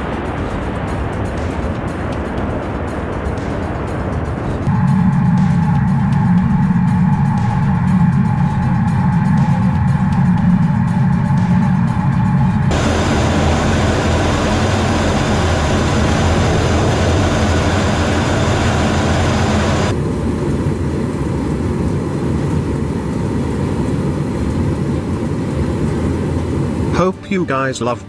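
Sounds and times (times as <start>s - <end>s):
jet aircraft engine roar: 0.0s - 27.0s.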